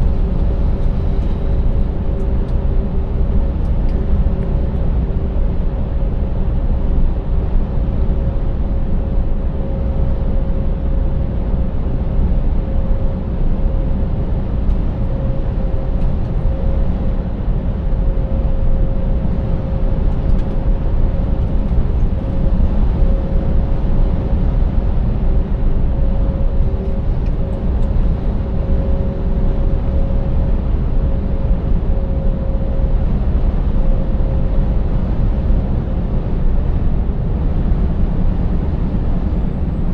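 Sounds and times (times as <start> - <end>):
faint steady whining tones: 0.0 - 39.9
truck engine and tyres droning: 0.0 - 39.9.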